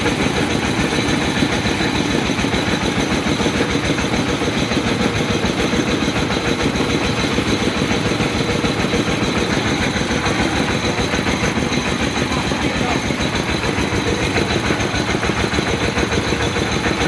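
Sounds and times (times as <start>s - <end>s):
drilling rig engine chugging: 0.0s - 17.0s.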